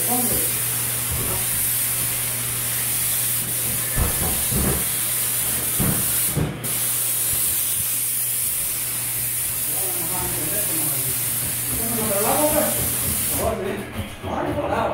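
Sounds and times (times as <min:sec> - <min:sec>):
steady hiss: 0:00.0 - 0:13.6.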